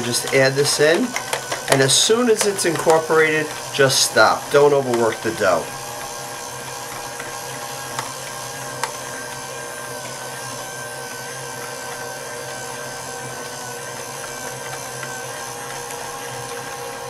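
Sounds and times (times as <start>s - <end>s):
electric mixer whining: 0.0s - 17.0s.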